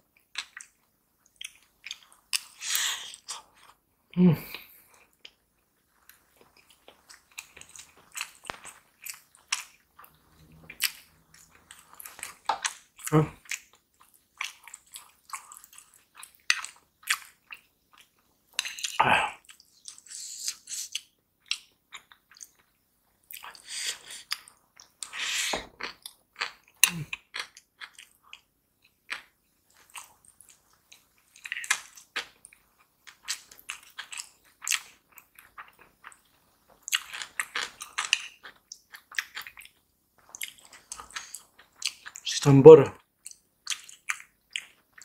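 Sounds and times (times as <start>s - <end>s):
close chewing and mouth clicks: 0.1s - 3.9s, 4.5s - 45.0s.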